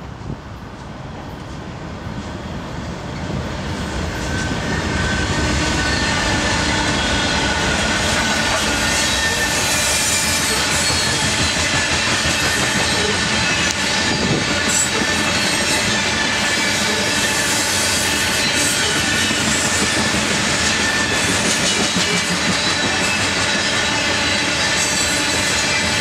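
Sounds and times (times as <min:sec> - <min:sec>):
steel wheels rumbling on rail: 0:00.0 - 0:26.0.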